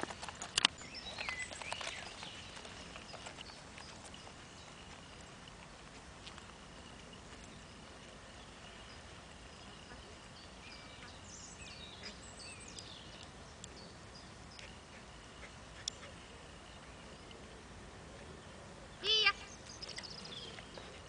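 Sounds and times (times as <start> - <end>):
small birds chirping: 0.0 - 17.6, 18.2 - 21.0.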